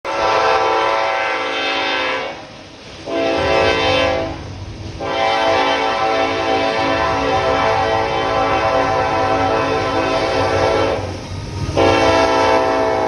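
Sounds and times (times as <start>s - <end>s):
locomotive air horn blasts: 0.1s - 11.1s, 11.7s - 13.0s
low train rumble: 0.1s - 13.0s.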